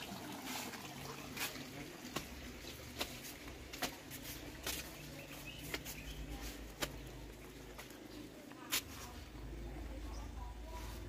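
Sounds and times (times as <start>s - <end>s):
low outdoor background noise: 0.0s - 11.0s
footsteps walking: 0.4s - 9.4s.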